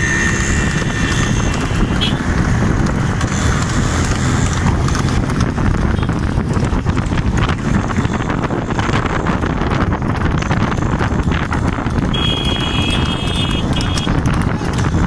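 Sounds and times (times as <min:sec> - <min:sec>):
horse hoofbeats on asphalt: 0:00.0 - 0:15.0
motorbikes running: 0:00.0 - 0:15.0
wind rumble on microphone: 0:00.0 - 0:15.0.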